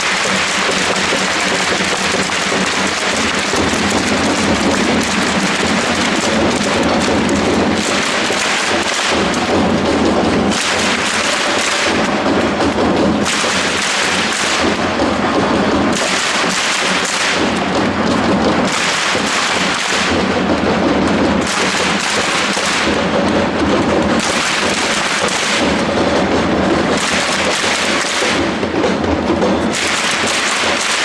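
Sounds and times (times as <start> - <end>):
crowd clapping in rhythm: 0.0 - 31.0.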